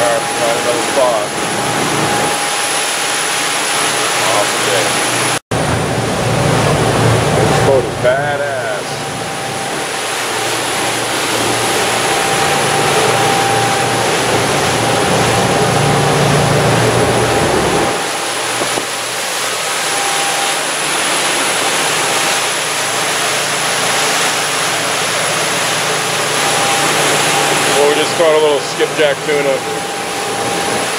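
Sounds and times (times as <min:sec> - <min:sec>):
boat engines droning: 0:00.0 - 0:30.9
rushing water: 0:00.0 - 0:30.9.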